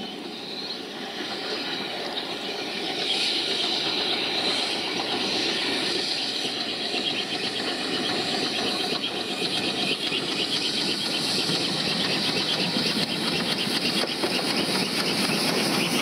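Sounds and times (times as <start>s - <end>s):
steam locomotive hauling train: 0.0s - 16.0s.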